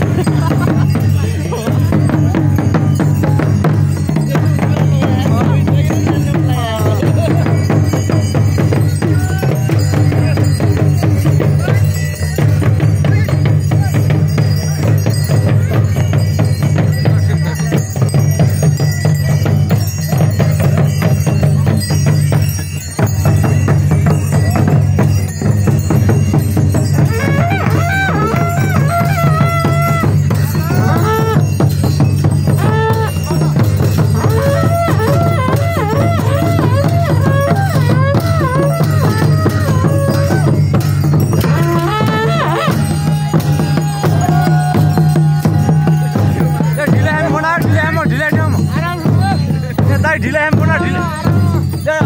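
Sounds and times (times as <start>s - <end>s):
drum ensemble playing: 0.0s - 52.0s
high wavering melody: 0.0s - 52.0s
jingling percussion: 0.0s - 52.0s.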